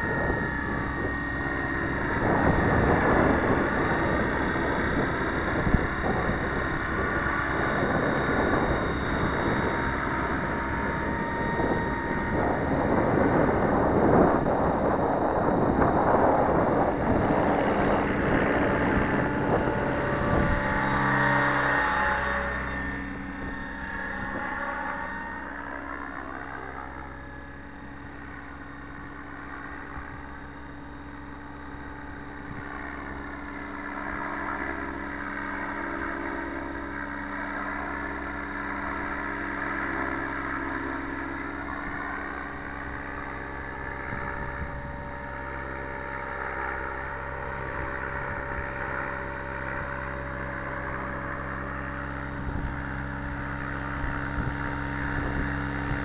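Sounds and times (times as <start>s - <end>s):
model helicopter rotor drone: 0.0s - 56.0s.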